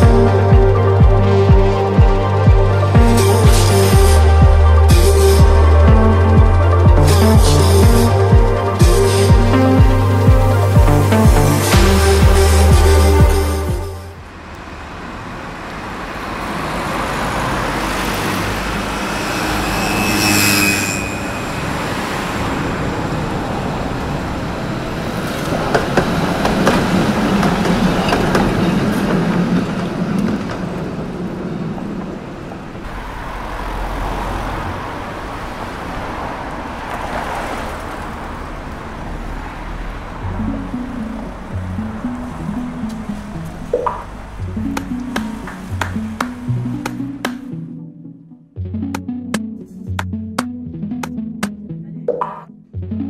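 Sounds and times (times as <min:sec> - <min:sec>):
road traffic noise: 0:00.0 - 0:52.7
vehicles passing: 0:00.0 - 0:53.0.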